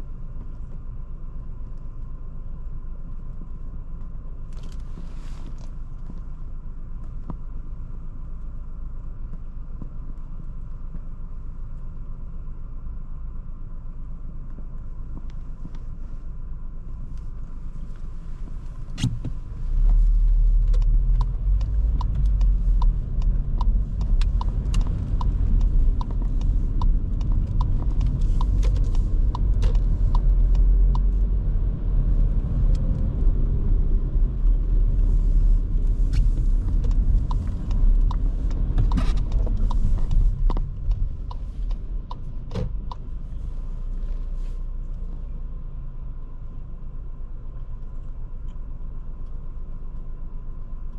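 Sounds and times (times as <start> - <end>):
car engine while driving: 0.0 - 50.9.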